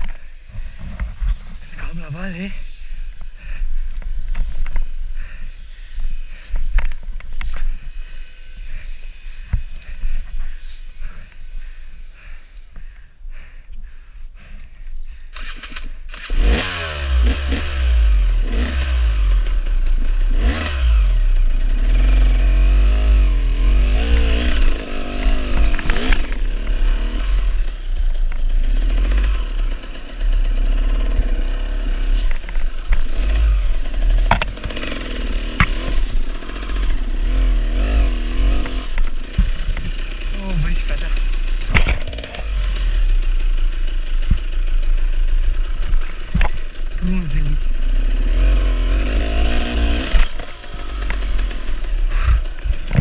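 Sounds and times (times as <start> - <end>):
motorcycle engine revving: 0.0 - 12.4, 15.2 - 53.0
motorcycle engine starting: 0.0 - 13.0, 15.0 - 53.0.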